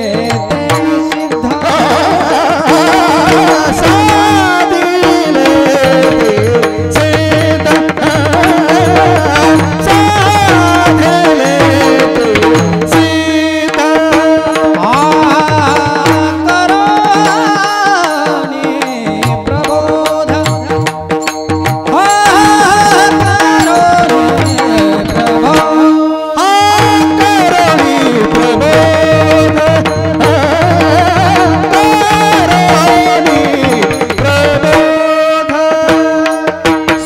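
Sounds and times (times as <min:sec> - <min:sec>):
hand drum beat: 0:00.0 - 0:25.9, 0:26.6 - 0:37.0
person singing ornamented notes: 0:00.0 - 0:37.0.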